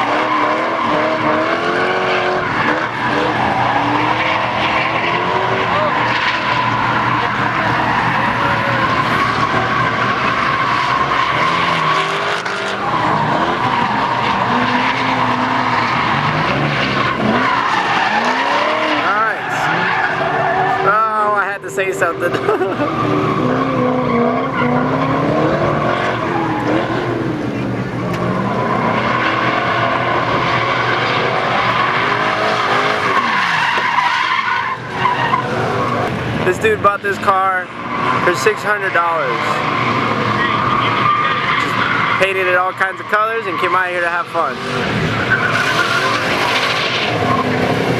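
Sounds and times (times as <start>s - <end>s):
car engines revving: 0.0s - 47.9s
tire squeal: 0.0s - 47.9s
tyres screeching: 0.0s - 47.9s.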